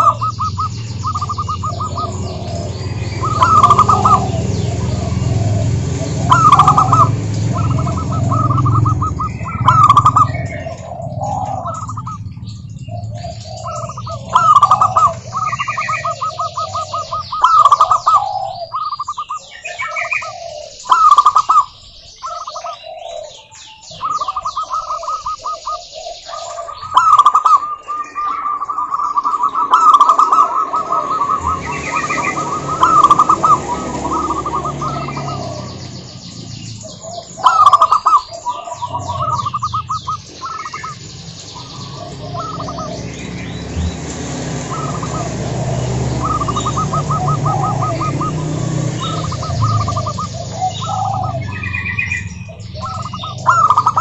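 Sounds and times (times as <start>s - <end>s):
doves cooing: 0.0s - 54.0s
high bird chirps: 0.0s - 54.0s.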